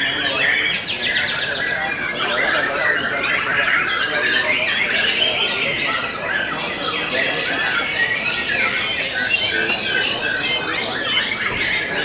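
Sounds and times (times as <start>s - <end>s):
caged birds singing in chorus: 0.0s - 12.0s.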